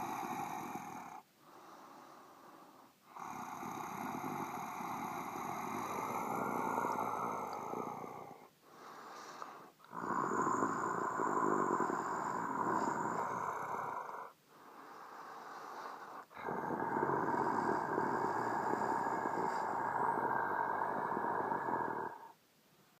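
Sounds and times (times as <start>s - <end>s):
raspy monster breathing: 0.0s - 22.4s.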